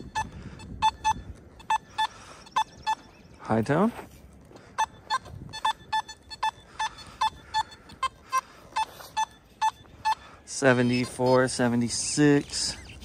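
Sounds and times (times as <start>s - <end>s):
metal detector high beeps: 0.0s - 3.4s, 4.8s - 13.0s.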